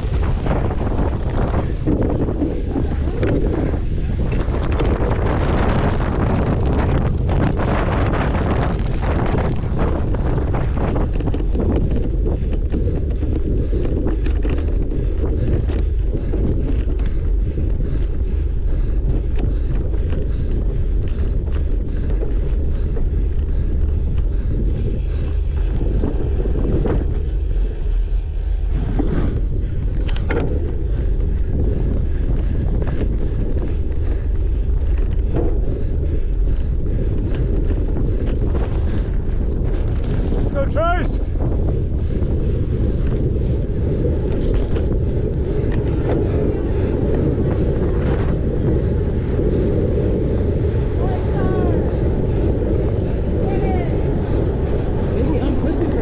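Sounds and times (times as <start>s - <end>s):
bike clicks and rattles: 0.0s - 56.0s
wind buffeting microphone: 0.0s - 56.0s.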